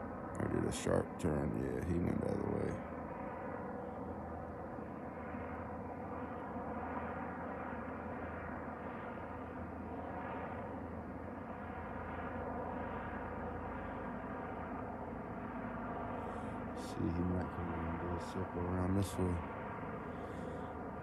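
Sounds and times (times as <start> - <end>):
distant helicopter hum: 0.0 - 21.0.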